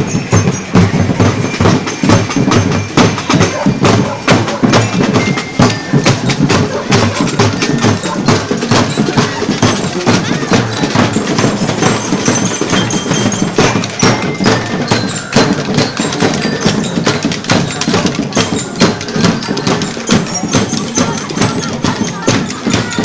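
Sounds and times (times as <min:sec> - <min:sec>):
drum and percussion band: 0:00.0 - 0:23.0.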